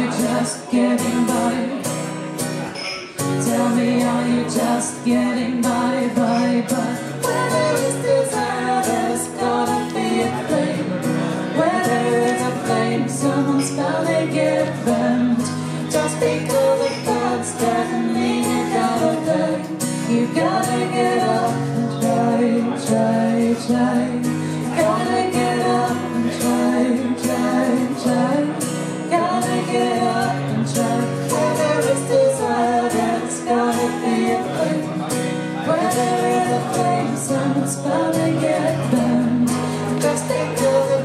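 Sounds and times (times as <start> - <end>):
woman and man singing: 0.0 - 2.2, 2.8 - 41.0
strummed guitar: 0.0 - 41.0.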